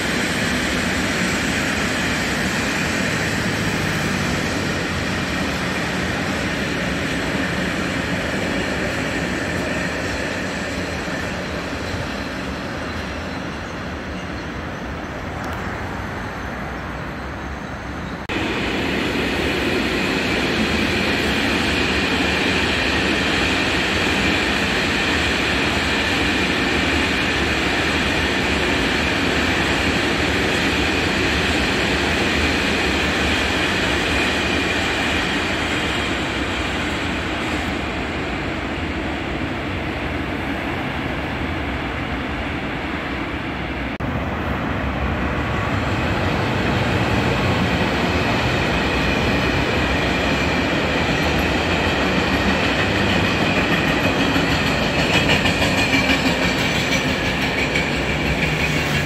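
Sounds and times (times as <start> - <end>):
freight train wagons rumbling: 0.0 - 59.0
high whine from train wheels: 0.0 - 59.0.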